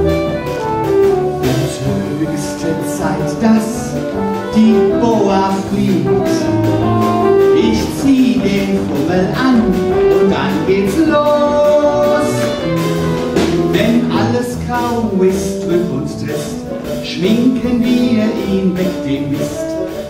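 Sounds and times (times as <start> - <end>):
jazz band playing: 0.0 - 20.0.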